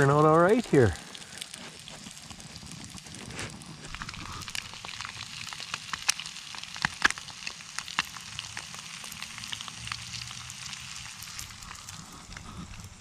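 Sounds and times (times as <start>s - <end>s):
eggs and bacon sizzling: 0.0s - 13.0s
sharp pops and crackles: 0.0s - 13.0s.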